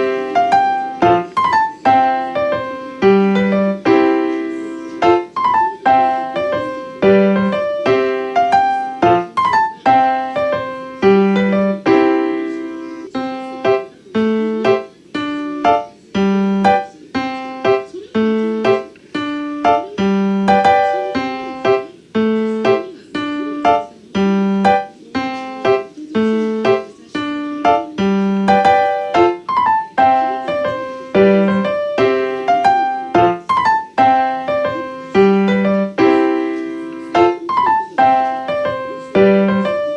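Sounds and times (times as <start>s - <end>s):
slow piano chords: 0.0s - 39.9s.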